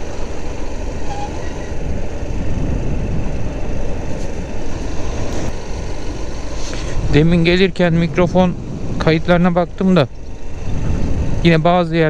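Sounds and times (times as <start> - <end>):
motorcycle engine: 0.0 - 12.0
wind rushing on microphone: 0.9 - 12.0.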